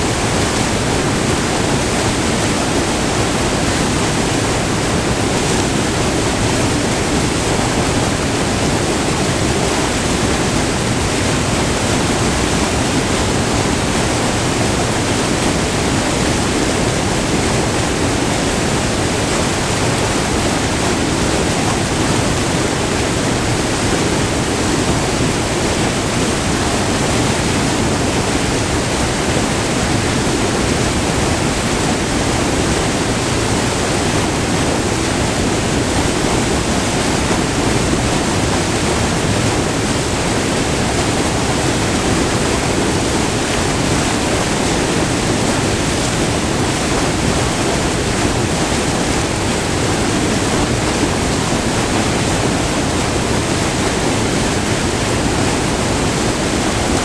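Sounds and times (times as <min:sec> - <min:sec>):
water rushing over waterfall: 0:00.0 - 0:57.0.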